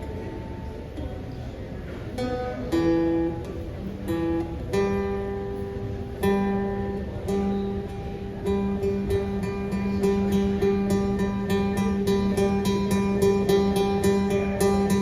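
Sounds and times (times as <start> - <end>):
acoustic guitar strumming chords: 2.0 - 15.0.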